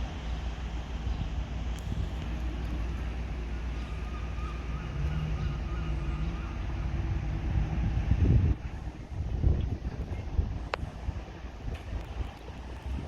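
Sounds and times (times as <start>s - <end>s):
diesel train engine rumbling: 0.0s - 13.0s
faint steady tones: 0.0s - 13.0s
wind on microphone: 1.0s - 13.0s.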